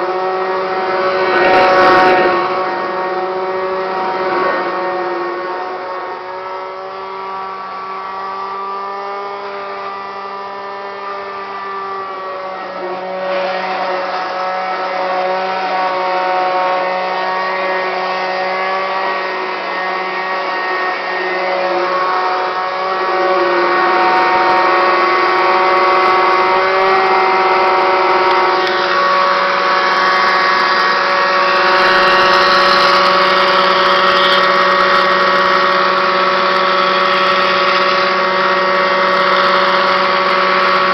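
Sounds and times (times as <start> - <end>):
vacuum cleaner whine with grinding: 0.0 - 40.9.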